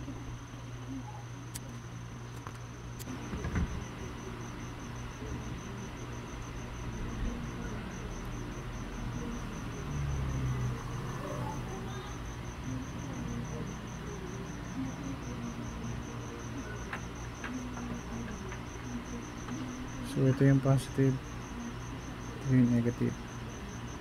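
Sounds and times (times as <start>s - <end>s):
cricket chirping: 0.0s - 24.0s
low steady hum: 0.0s - 24.0s.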